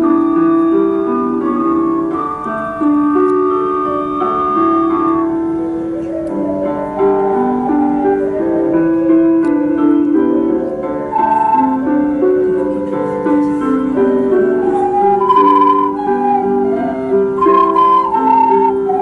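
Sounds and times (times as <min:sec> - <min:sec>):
ocarina ensemble playing melody: 0:00.0 - 0:19.0.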